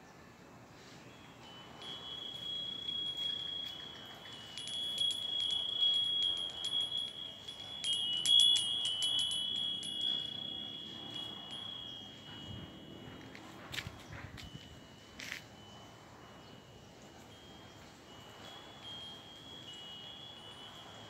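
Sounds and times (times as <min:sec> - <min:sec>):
wind chime bells ringing: 0:01.0 - 0:21.0.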